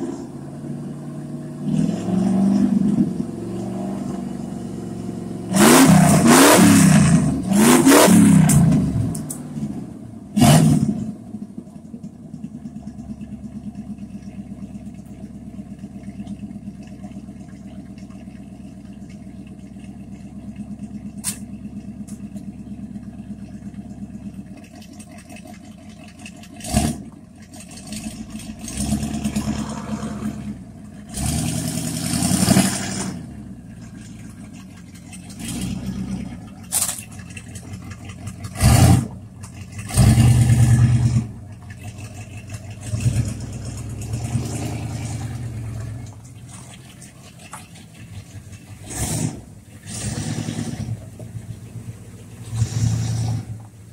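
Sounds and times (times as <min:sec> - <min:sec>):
truck engine idling and revving: 0:00.0 - 0:53.9.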